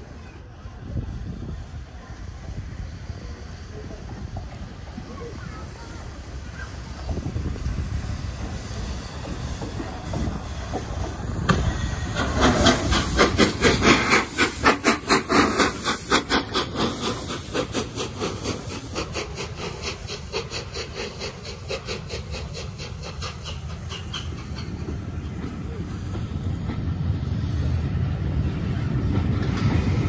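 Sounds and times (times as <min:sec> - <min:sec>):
low train rumble: 0:00.0 - 0:30.0
steam locomotive hissing: 0:00.0 - 0:30.0.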